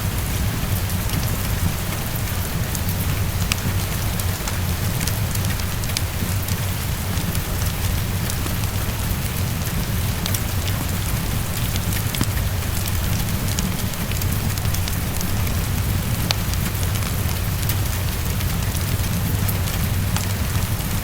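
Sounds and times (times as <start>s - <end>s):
heavy rain on a window: 0.0s - 21.0s
wood fire crackling: 0.0s - 21.0s.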